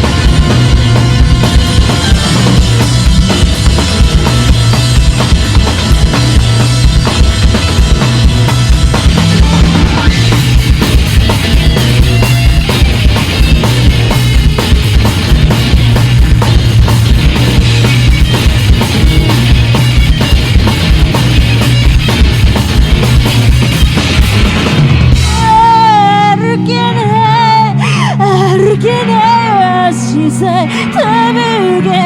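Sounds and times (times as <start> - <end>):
drum kit: 0.0 - 30.1
rock band playing live: 0.0 - 32.0.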